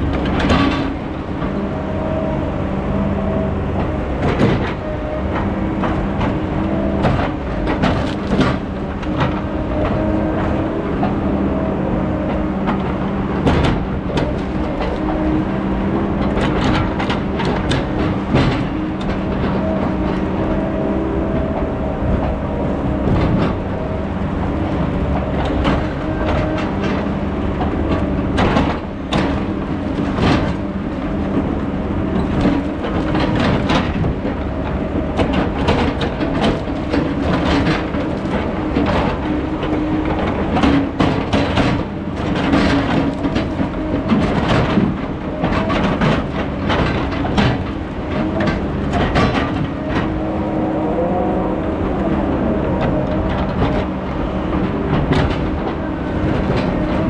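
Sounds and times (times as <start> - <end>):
metallic clanks and knocks: 0.0 - 2.2, 12.2 - 57.0
heavy machine engine running: 0.0 - 57.0.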